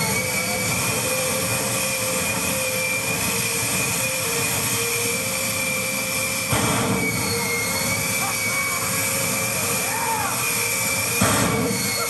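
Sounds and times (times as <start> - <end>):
jet engine roaring with whine: 0.0 - 12.0.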